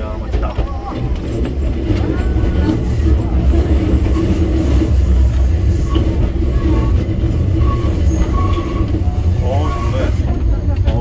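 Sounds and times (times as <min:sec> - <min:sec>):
constant hum: 0:00.0 - 0:11.0
train wheels rumbling: 0:00.0 - 0:11.0.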